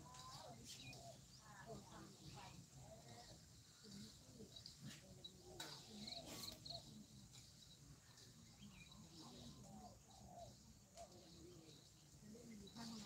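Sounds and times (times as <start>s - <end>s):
distant bird calls: 0.0s - 13.0s.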